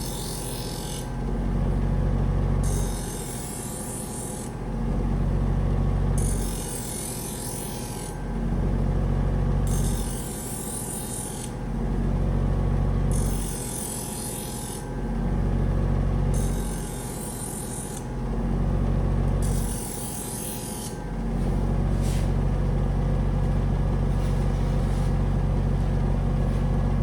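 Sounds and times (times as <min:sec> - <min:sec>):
belt sander motor hum: 0:00.0 - 0:27.0.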